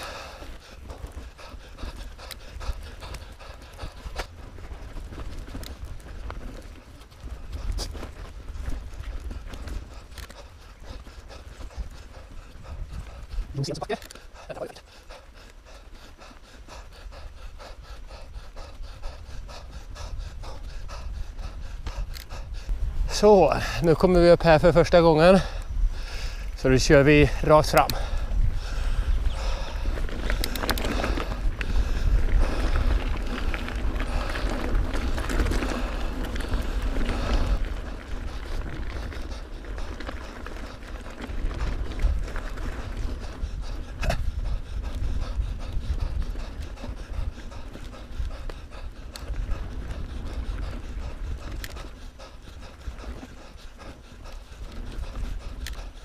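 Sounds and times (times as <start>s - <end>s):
person breathing hard: 0.0s - 6.5s, 7.2s - 24.0s, 25.2s - 56.0s
low rumble of bike on trail: 0.0s - 56.0s.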